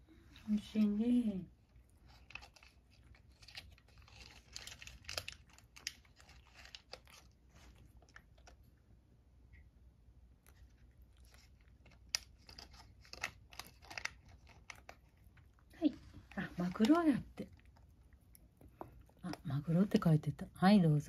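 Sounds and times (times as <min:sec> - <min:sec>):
cat crunching dry treat: 0:01.5 - 0:08.9, 0:10.3 - 0:20.0.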